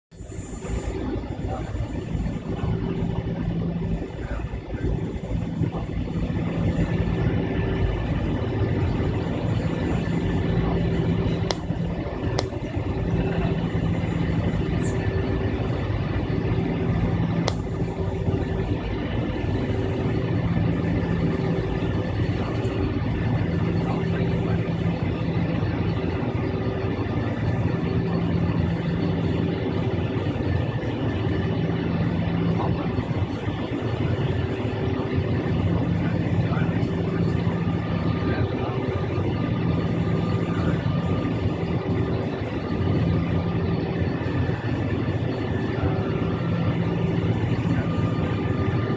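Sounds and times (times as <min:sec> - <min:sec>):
jet engine noise inside cabin: 0:00.1 - 0:48.9
low hum: 0:00.1 - 0:48.9.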